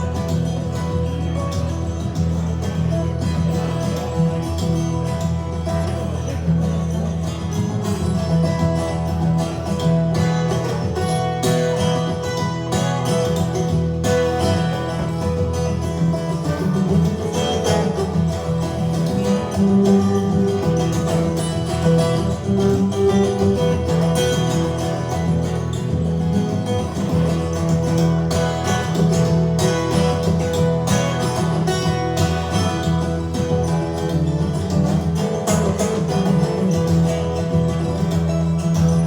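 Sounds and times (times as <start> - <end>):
live guitar music: 0.0 - 39.0.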